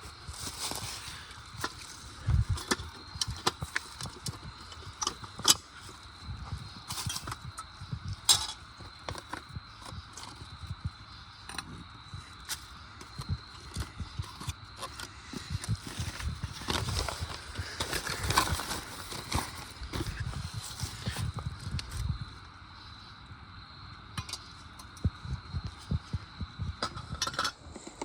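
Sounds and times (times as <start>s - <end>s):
camping gear clicking and rustling: 0.0s - 22.3s, 24.2s - 28.0s.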